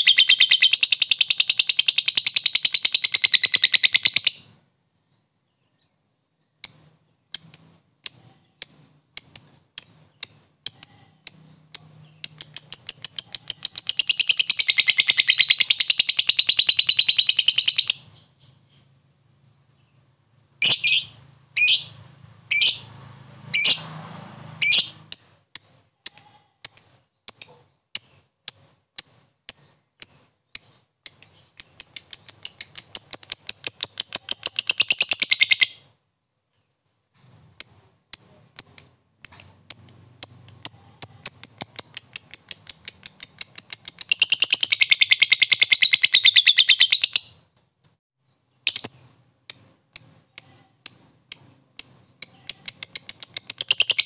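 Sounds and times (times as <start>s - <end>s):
lovebird chirping and trilling: 0.0s - 4.6s, 5.6s - 19.0s, 19.8s - 23.9s, 24.6s - 36.0s, 36.6s - 47.5s, 48.5s - 54.0s.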